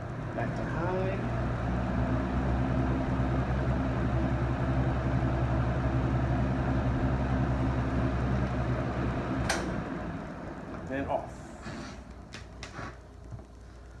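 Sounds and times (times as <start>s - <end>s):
box fan running: 0.0s - 14.0s.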